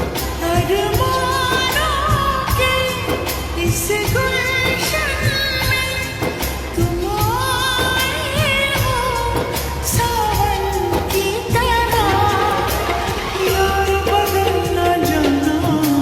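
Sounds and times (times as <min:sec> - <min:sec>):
film song with melismatic singing: 0:00.0 - 0:16.0.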